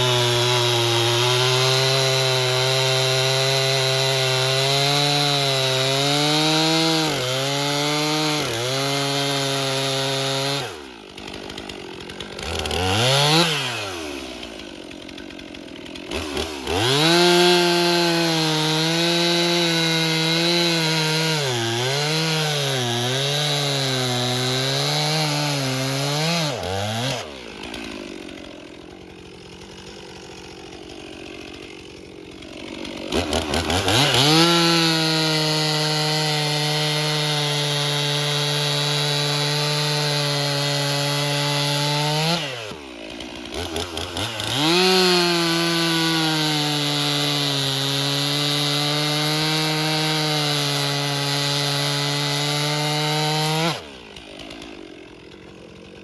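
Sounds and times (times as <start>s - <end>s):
chainsaw cutting log: 0.0s - 56.0s
chainsaw idling and revving: 0.0s - 56.0s.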